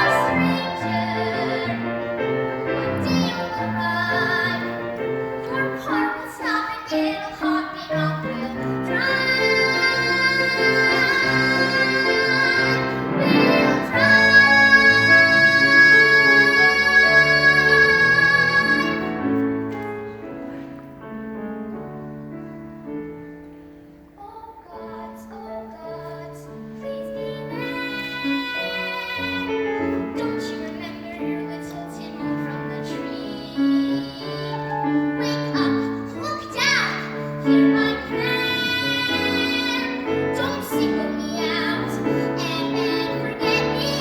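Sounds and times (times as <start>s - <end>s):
woman singing: 0.0s - 19.2s, 24.2s - 44.0s
piano accompaniment: 0.0s - 44.0s.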